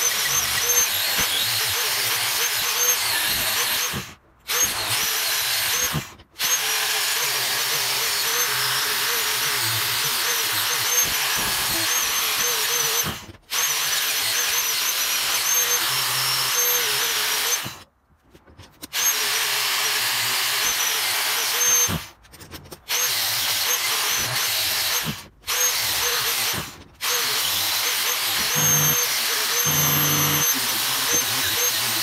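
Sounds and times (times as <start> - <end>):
angle grinder grinding metal: 0.0 - 17.8, 18.8 - 22.1, 22.7 - 32.0.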